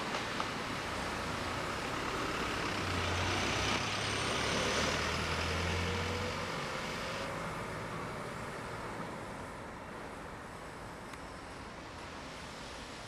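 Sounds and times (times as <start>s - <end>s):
heavy vehicle engine hum: 0.0s - 13.0s
traffic noise: 0.0s - 13.0s.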